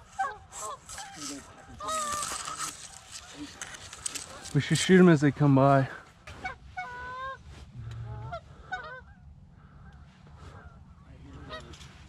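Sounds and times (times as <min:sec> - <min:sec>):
geese honking: 0:00.0 - 0:04.8, 0:06.3 - 0:11.9.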